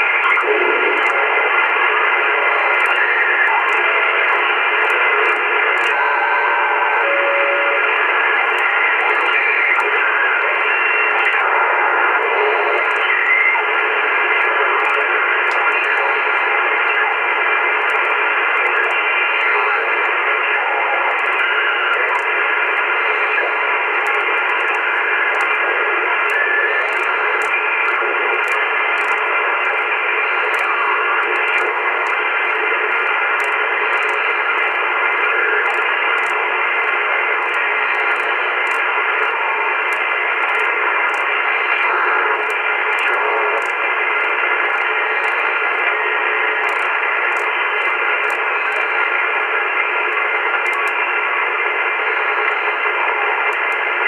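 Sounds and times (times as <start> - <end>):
shortwave radio hiss: 0.0 - 54.0.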